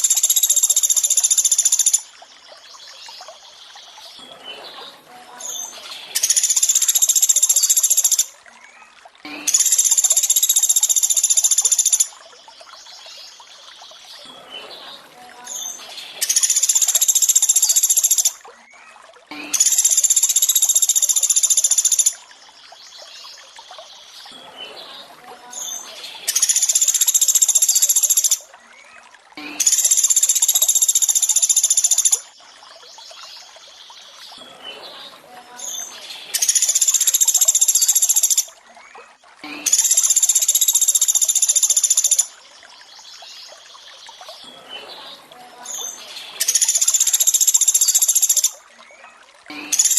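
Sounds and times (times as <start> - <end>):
water trickling: 0.0 - 49.9.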